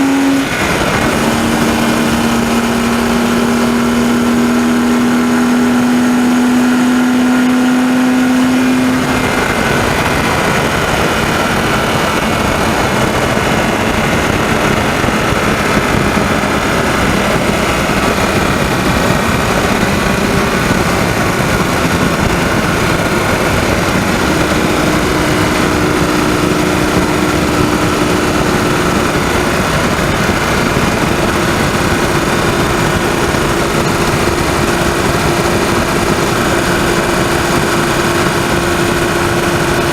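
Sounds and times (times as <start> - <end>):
car engine running: 0.0 - 39.9
engine rattling ticking noise: 0.0 - 39.9.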